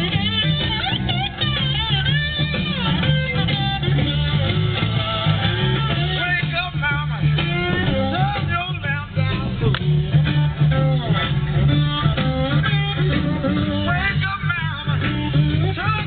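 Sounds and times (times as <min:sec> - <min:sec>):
guitar-driven music: 0:00.0 - 0:16.0.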